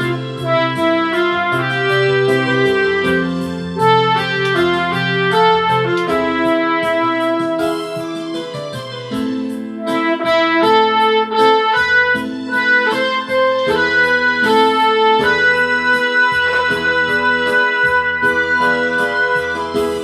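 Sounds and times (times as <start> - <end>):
electric piano accompaniment: 0.0 - 20.0
wind instrument melody: 0.0 - 20.0.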